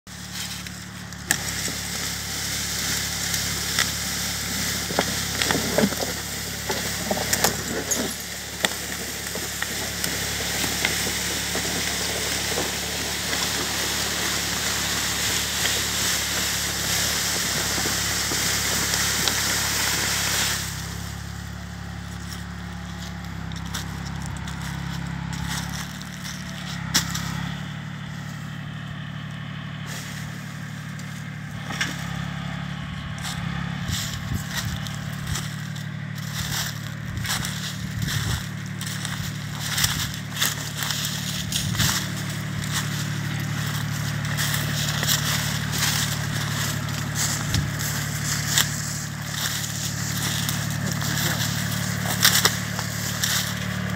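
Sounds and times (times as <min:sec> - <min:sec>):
tractor engine running: 0:00.0 - 0:53.9
log dragged over dry leaves: 0:00.1 - 0:53.9.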